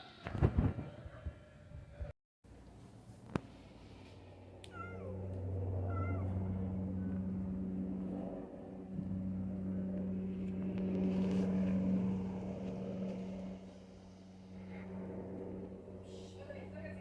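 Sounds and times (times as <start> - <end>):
helicopter drone: 2.9 - 17.0.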